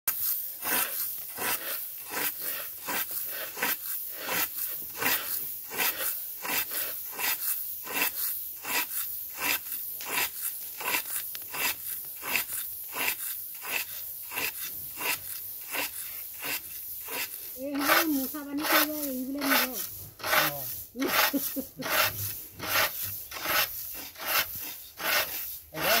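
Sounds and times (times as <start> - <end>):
rake scraping through grain: 0.1 - 26.0.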